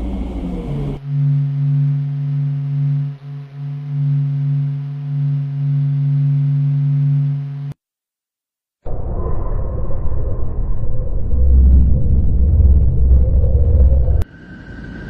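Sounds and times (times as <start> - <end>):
low droning hum: 0.0 - 7.8, 8.9 - 15.0.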